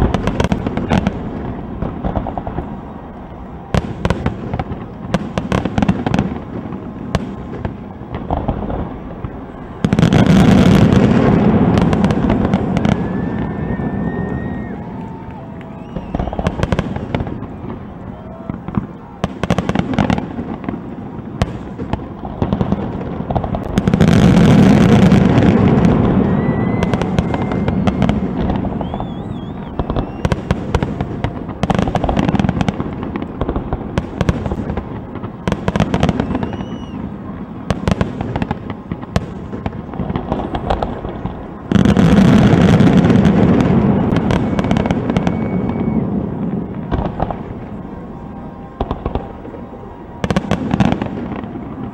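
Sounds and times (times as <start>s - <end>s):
fireworks bursting with bangs: 0.0s - 51.9s
fireworks crackle: 0.0s - 51.9s.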